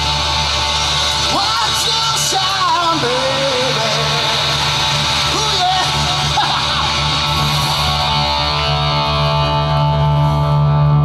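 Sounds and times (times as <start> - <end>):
electric guitars ringing chords: 0.0 - 11.0
live rock band playing: 0.0 - 11.0.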